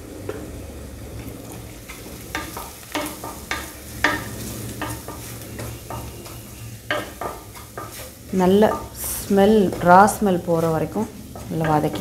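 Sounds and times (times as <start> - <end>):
onions sizzling in a pan: 0.0 - 12.0
wooden spatula scraping a pan: 1.4 - 12.0.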